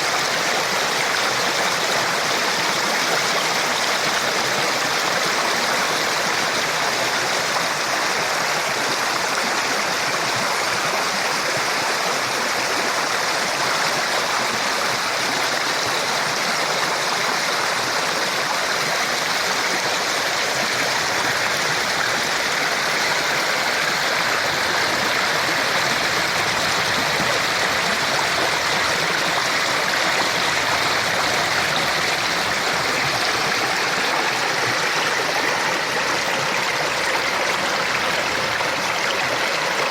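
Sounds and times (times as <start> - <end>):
flooded creek rushing: 0.0 - 39.9.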